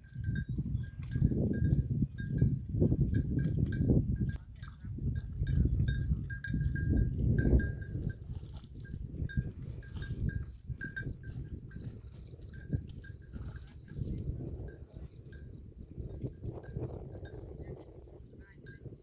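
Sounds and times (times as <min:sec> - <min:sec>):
animal bells clinking: 0:00.0 - 0:19.0.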